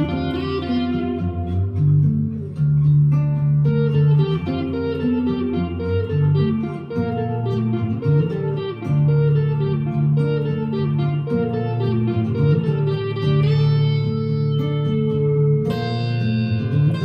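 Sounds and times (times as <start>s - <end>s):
overdriven electric guitar: 0.0s - 17.0s.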